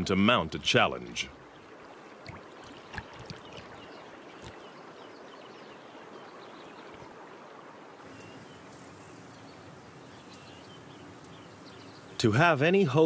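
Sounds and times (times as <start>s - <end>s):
outdoor ambience: 0.0s - 13.0s
river water lapping: 0.0s - 13.0s.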